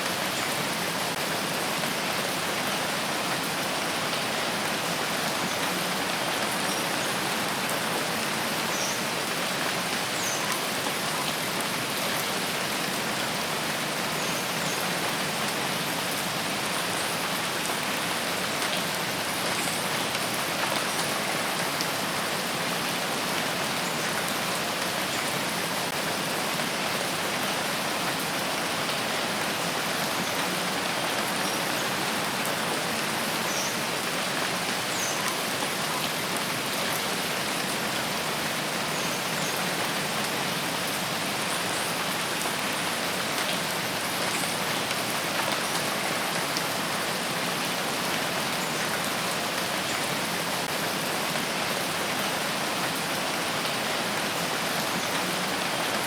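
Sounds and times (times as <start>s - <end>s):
rain hissing on foliage: 0.0s - 56.0s.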